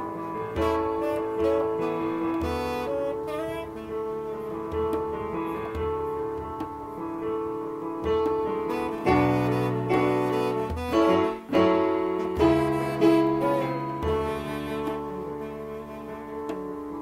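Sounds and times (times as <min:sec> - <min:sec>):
saxophone holding long notes: 0:00.0 - 0:06.7, 0:08.0 - 0:17.0
keyboard chords: 0:00.0 - 0:17.0.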